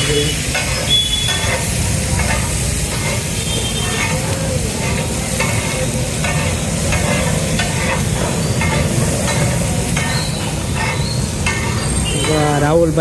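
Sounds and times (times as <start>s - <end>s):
spoon scraping a pan: 0.0s - 12.6s
vegetables sizzling in a pan: 0.0s - 13.0s.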